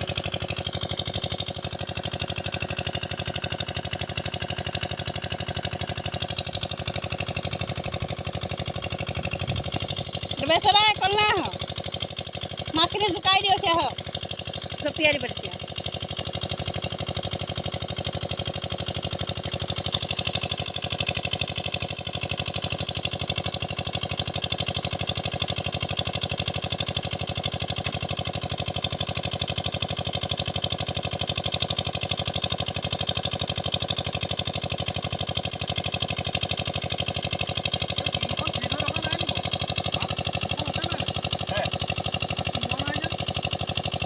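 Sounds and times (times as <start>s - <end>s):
small engine chugging: 0.0s - 44.0s.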